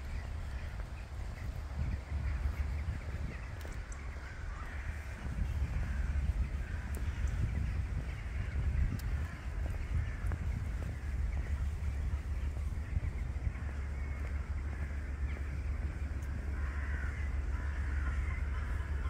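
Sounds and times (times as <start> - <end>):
birds calling harshly: 0.0 - 19.0
steady low rumble: 0.0 - 19.0.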